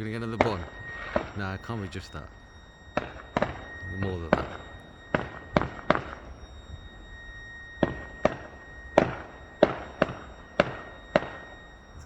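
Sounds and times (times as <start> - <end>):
fireworks bangs: 0.0 - 6.3, 7.8 - 11.6.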